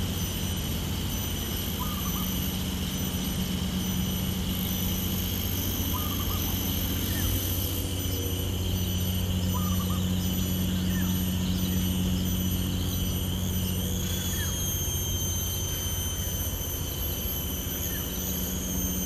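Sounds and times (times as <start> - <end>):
high-pitched whine: 0.0 - 19.0
steady low hum: 0.0 - 19.0.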